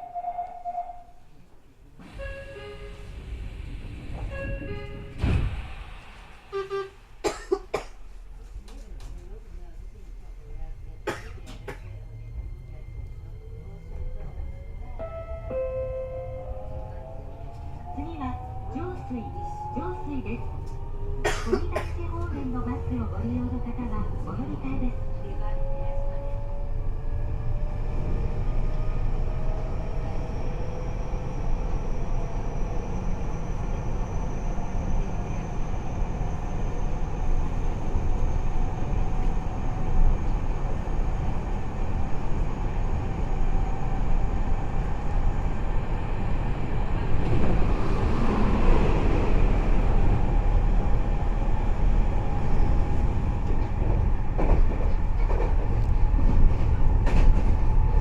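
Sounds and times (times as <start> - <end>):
train rumble from inside car: 0.0 - 58.0.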